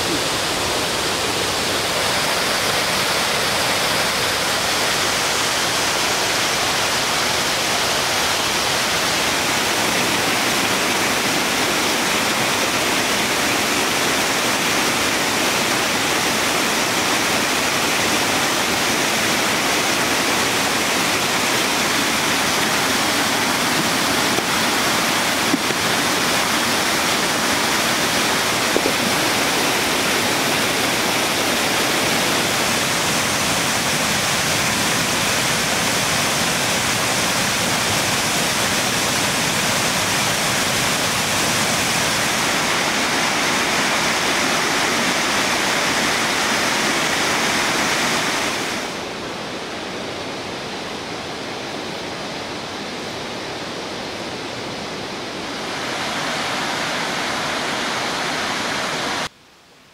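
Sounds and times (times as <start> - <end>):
stream and waterfall rushing: 0.0 - 59.9.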